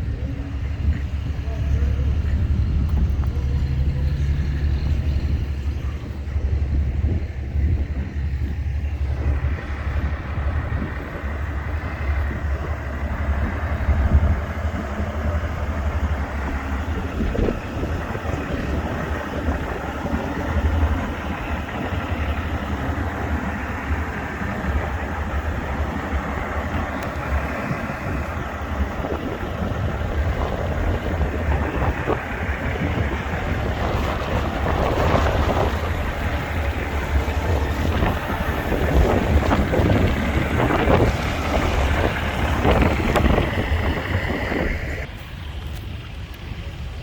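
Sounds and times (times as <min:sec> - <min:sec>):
vehicle engines rumbling: 0:00.0 - 0:47.0.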